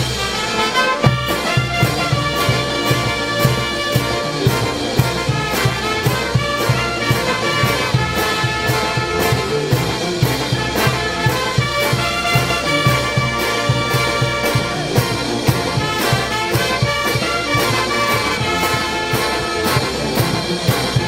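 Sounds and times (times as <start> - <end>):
brass band playing: 0.0 - 21.0
bass drum beat: 1.0 - 21.0.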